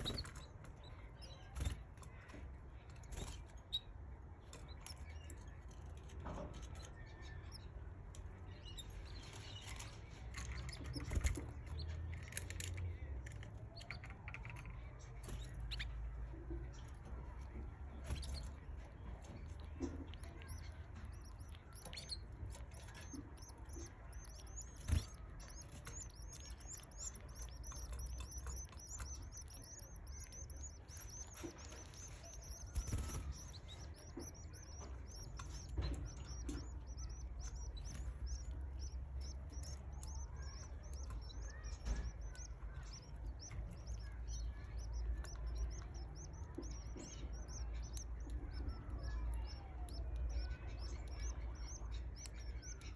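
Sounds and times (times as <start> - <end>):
chicks cheeping: 0.0 - 52.9.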